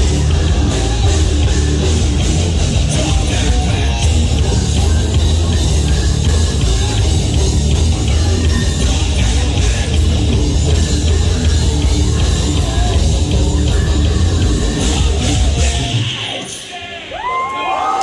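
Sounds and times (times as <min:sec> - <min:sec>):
drum kit: 0:00.0 - 0:16.4
bass guitar: 0:00.0 - 0:16.5
distorted electric guitars: 0:00.0 - 0:17.1.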